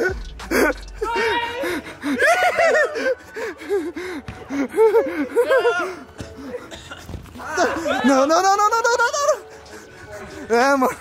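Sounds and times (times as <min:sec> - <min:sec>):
people laughing and gasping: 0:00.0 - 0:11.0.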